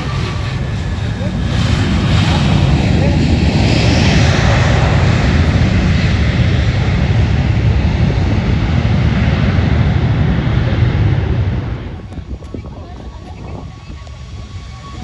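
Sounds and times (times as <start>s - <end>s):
airliner engine roar: 0.0s - 15.0s.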